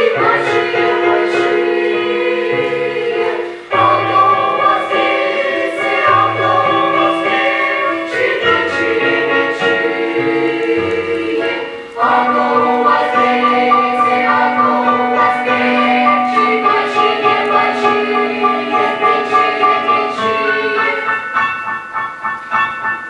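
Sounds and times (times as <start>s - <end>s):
children's choir singing: 0.0s - 21.6s.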